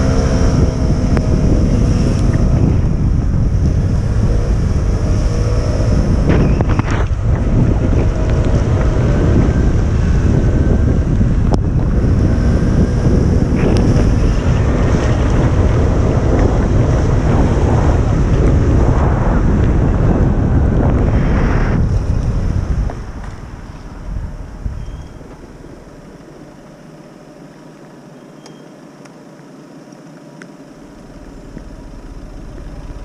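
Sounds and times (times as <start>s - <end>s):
wind buffeting on microphone: 0.0s - 26.7s.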